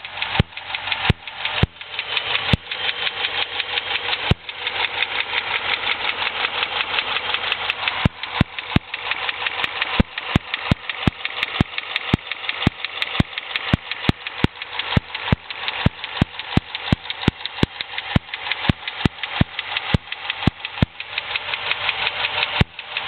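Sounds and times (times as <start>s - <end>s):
car engine idling: 0.0s - 23.0s
fast ticking from valvetrain: 0.0s - 23.0s
sharp clicks: 0.0s - 23.0s.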